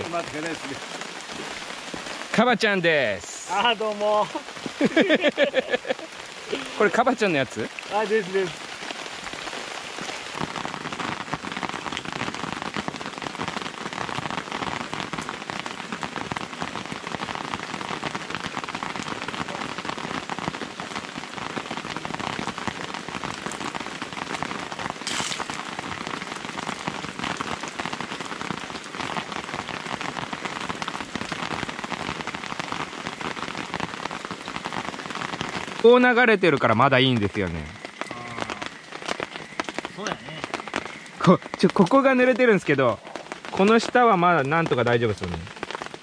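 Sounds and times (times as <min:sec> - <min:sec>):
rain pattering on tarps: 0:00.0 - 0:46.0.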